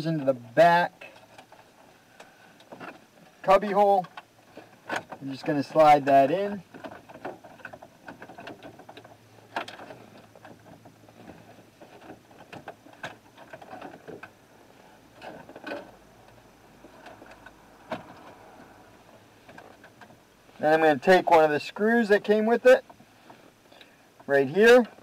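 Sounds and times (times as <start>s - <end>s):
soft rustling and scraping: 0.0s - 25.0s.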